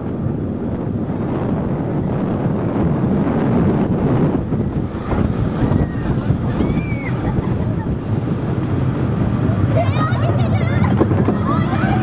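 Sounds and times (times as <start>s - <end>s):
roller coaster wheels rumbling on rails: 0.0s - 12.0s
wind buffeting microphone: 0.0s - 12.0s.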